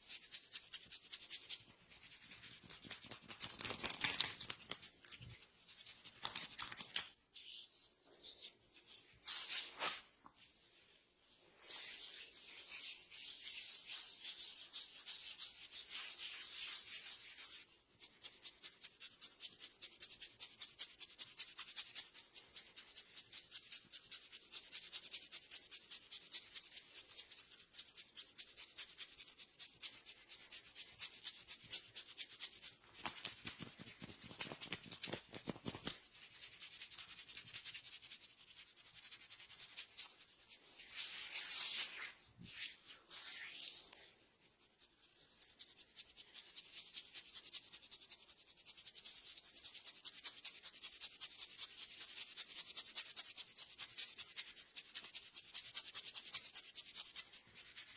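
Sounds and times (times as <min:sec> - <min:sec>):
hands rubbing hair and scalp: 0:00.0 - 0:57.9.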